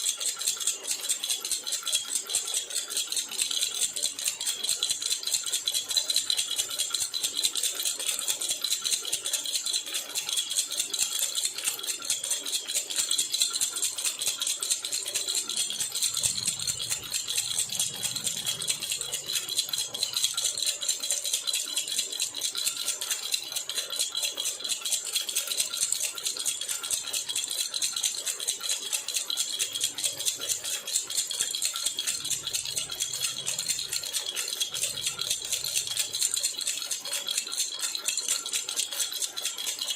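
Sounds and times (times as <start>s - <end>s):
metal baby rattle jingling: 0.0s - 39.9s.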